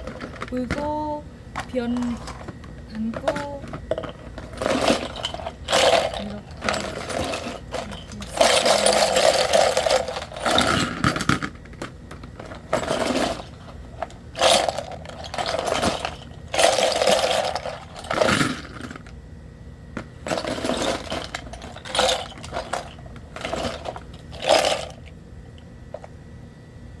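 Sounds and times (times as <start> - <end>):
plastic scoop scraping floor: 0.0 - 0.7, 1.6 - 11.4, 12.3 - 19.1, 20.2 - 25.1
contents clattering into scoop: 0.0 - 1.0, 1.6 - 19.1, 20.2 - 25.1.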